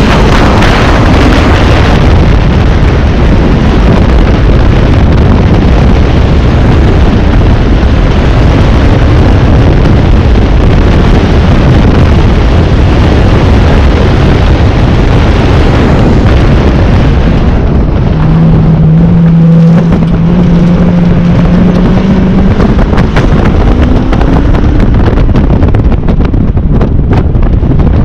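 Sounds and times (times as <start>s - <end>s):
car engine driven hard: 0.0s - 28.0s
wind buffeting microphone: 0.0s - 28.0s.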